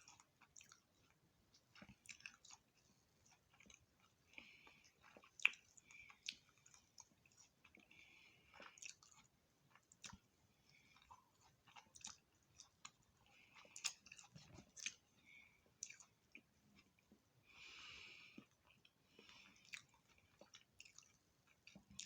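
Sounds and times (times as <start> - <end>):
chewing fried food: 0.0 - 22.0.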